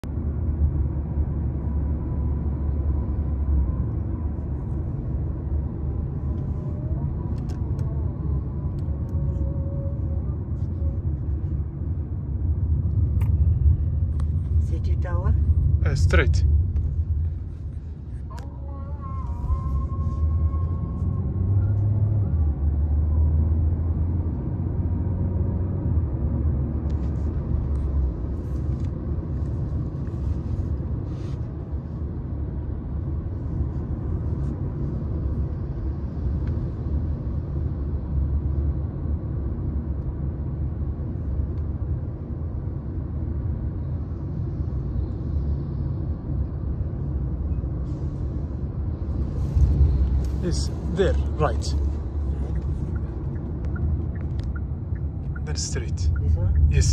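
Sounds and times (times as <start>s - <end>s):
low road rumble inside car: 0.0s - 56.9s.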